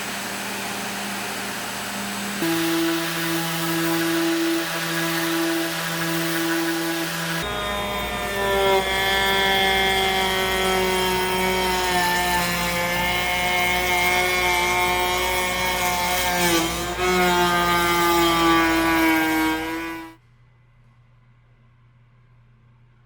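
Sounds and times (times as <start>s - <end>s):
power tool motor whining: 0.0s - 20.2s.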